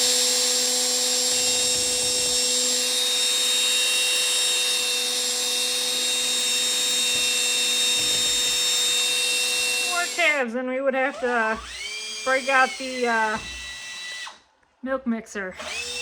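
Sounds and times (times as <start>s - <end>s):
electric drill mixer running: 0.0s - 10.4s, 11.1s - 14.5s, 15.6s - 16.0s.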